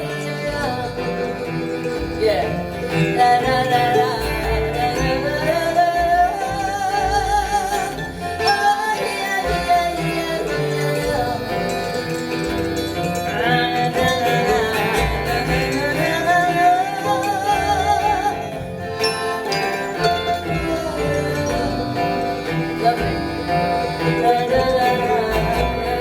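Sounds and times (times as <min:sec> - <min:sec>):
acoustic band playing: 0:00.0 - 0:26.0.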